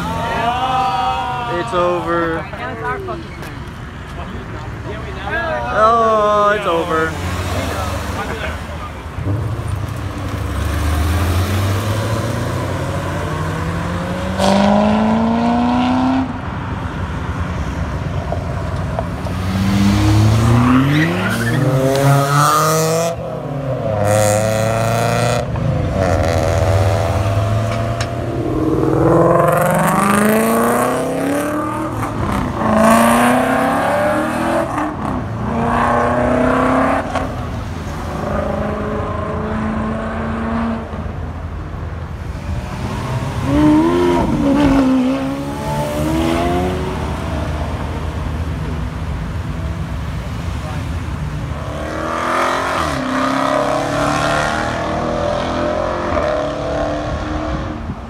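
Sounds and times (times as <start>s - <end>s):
cars accelerating hard: 5.7s - 16.7s, 18.8s - 41.4s, 42.1s - 58.0s.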